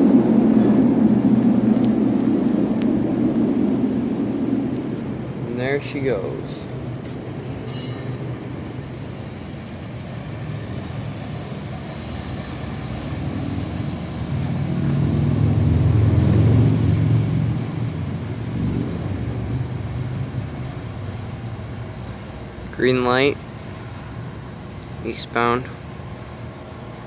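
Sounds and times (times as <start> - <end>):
diesel locomotive engine hum: 0.0 - 27.0
rumbling train cars: 0.0 - 27.0.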